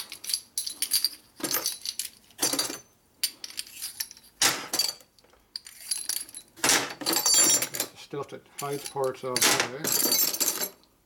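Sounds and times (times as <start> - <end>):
metal parts clinking and jangling: 0.0 - 7.9, 8.6 - 10.9.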